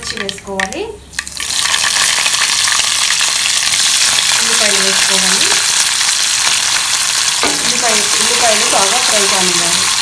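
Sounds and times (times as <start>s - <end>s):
chillies sizzling in hot oil: 1.2s - 10.0s.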